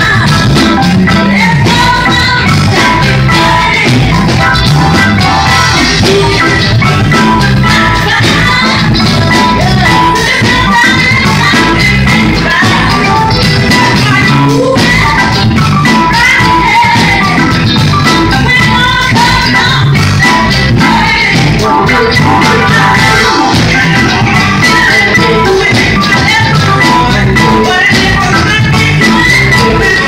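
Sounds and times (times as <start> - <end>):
drums: 0.0 - 30.0
electric guitar: 0.0 - 30.0
live band playing loudly: 0.0 - 30.0
woman singing into microphone: 0.0 - 30.0.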